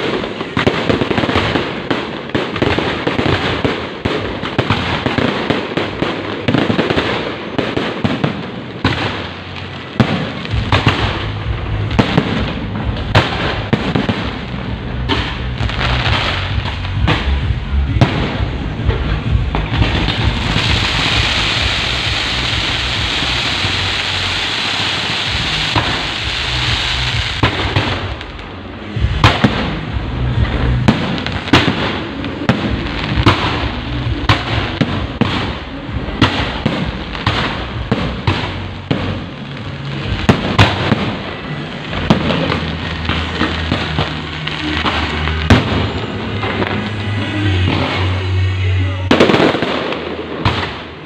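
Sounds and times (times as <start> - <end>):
firecrackers crackling and banging: 0.0 - 51.0.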